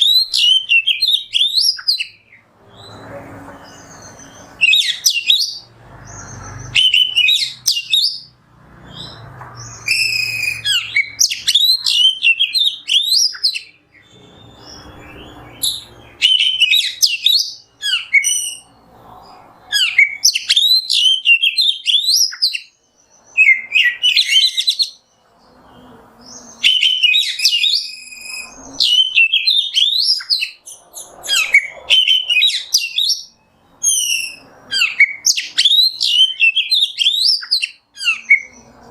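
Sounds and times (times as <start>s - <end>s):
bird singing whistles and chirps: 0.0s - 18.8s, 19.7s - 38.8s.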